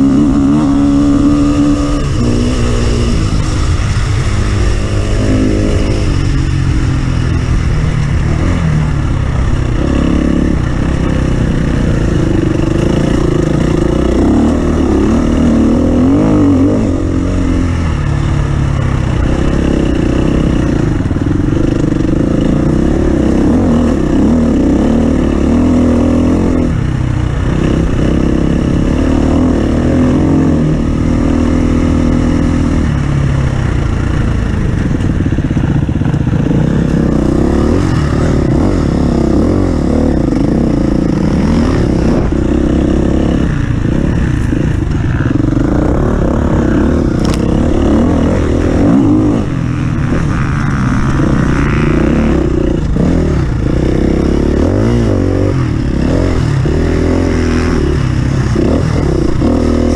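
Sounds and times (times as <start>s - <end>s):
off-road vehicle engine: 0.0s - 59.9s.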